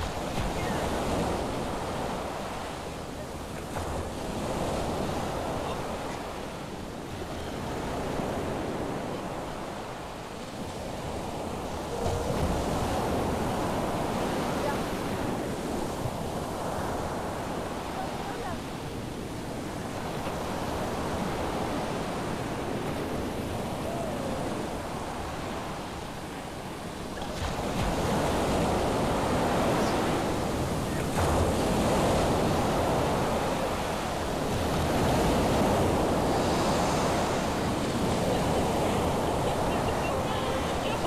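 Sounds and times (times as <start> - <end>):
ocean surf breaking on beach: 0.0 - 41.0
wind: 0.0 - 41.0.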